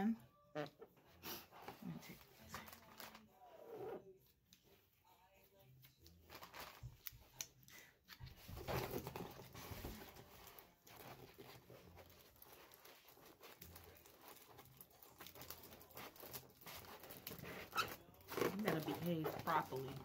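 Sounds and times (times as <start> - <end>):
balloons rustling and crinkling: 0.0 - 4.9, 5.8 - 7.4, 8.2 - 20.0.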